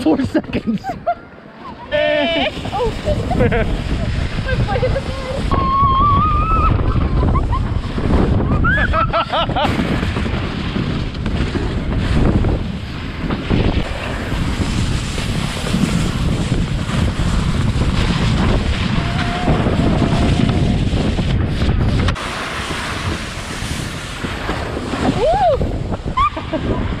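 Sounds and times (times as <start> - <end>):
tube sliding over snow: 0.1 - 27.0
wind buffeting microphone: 1.8 - 27.0.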